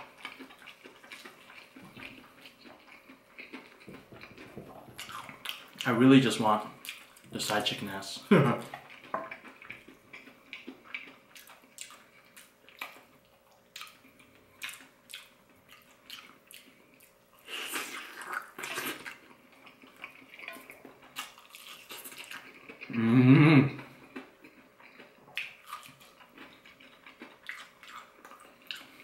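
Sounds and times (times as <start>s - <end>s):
person chewing crispy chicken: 0.0s - 5.9s, 6.8s - 8.0s, 8.6s - 23.0s, 23.8s - 29.0s.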